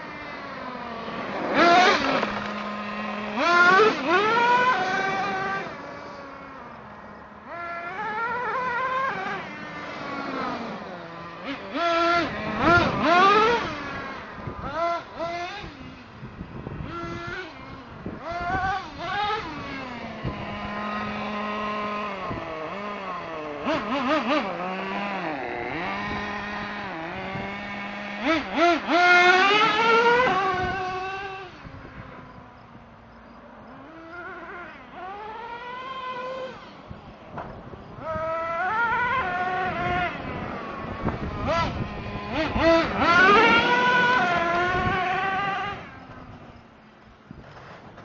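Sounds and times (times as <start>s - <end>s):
rc truck engine revving: 0.0s - 48.0s.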